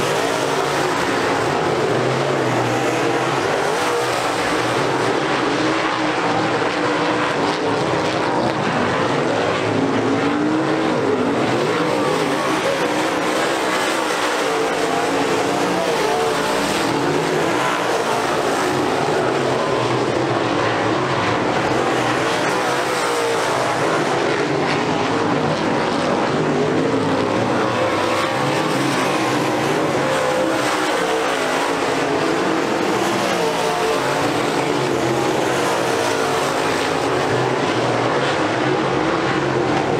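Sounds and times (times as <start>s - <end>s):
race car engines droning: 0.0s - 39.9s.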